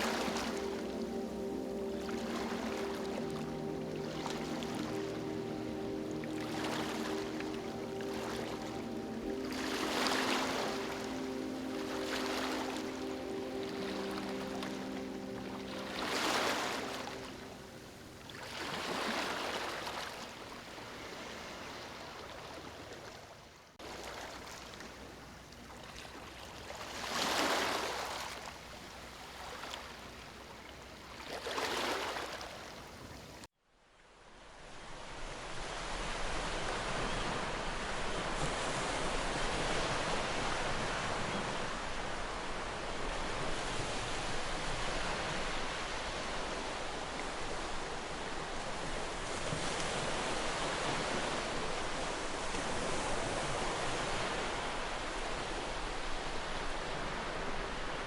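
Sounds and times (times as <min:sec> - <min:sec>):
sea waves washing onto shore: 0:00.0 - 0:23.2, 0:23.8 - 0:33.5, 0:34.8 - 0:58.0
continuous rush of surf: 0:00.0 - 0:33.5, 0:34.1 - 0:58.0.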